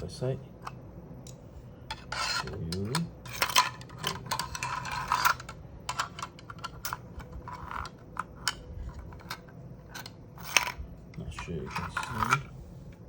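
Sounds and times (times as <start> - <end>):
plastic parts scraping: 1.9 - 12.6.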